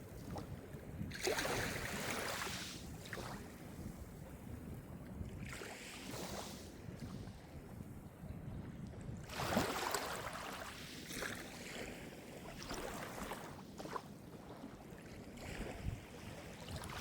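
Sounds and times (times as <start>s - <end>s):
small waves breaking on shore: 0.0s - 8.0s, 8.6s - 17.0s
low rumble of sea: 0.0s - 17.0s.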